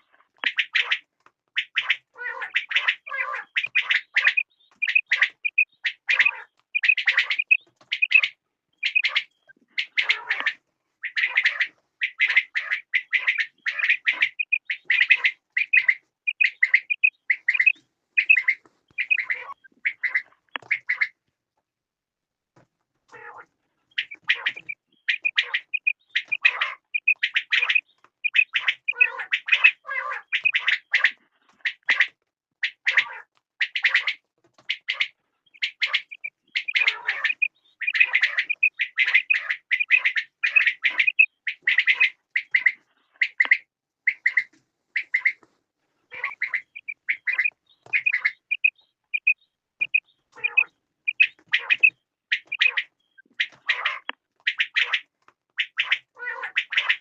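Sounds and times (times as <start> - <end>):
quails calling: 0.0 - 21.3, 23.1 - 45.5, 46.1 - 57.0.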